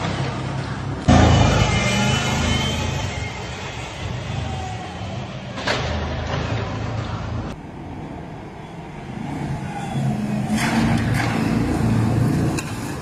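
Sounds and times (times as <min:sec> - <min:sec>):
vehicles passing on street: 0:00.0 - 0:13.0.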